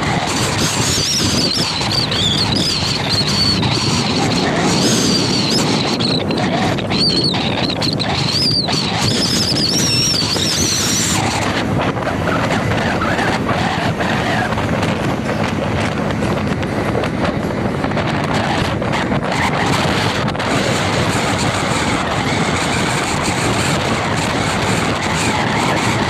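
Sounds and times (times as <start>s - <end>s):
vehicle road and wind noise: 0.0s - 26.0s
wind buffeting microphone: 0.0s - 26.0s.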